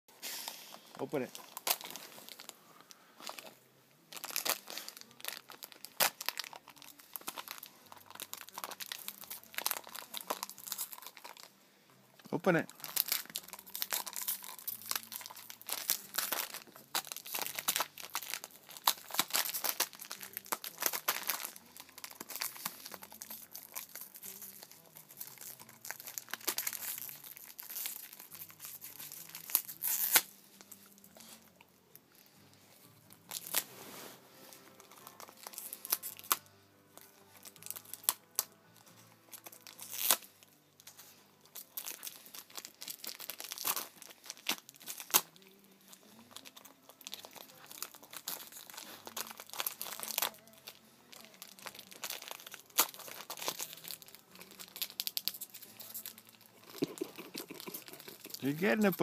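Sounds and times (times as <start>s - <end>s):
plastic crinkling: 0.2s - 11.6s, 12.4s - 31.6s, 33.0s - 59.0s
dog chewing plastic wrapper: 0.3s - 11.6s, 12.4s - 33.8s, 34.4s - 59.0s.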